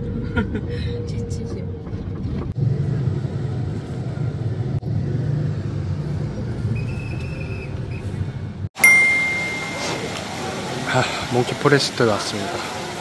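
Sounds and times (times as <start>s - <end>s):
car engine and road noise: 0.0s - 10.8s.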